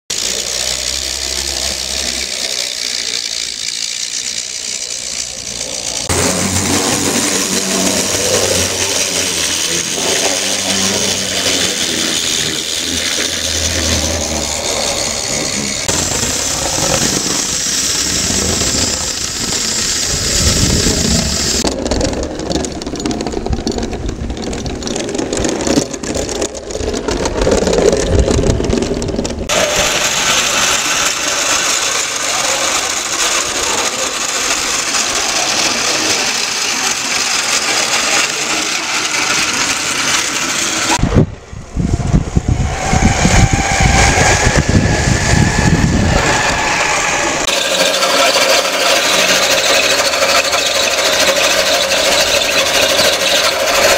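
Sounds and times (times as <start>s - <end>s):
clockwork spring motor whirring: 0.1s - 41.0s, 41.8s - 53.9s
toy train wheels rattling on rails: 0.1s - 41.0s, 42.5s - 53.9s
toy electric locomotive rumble: 0.1s - 53.9s.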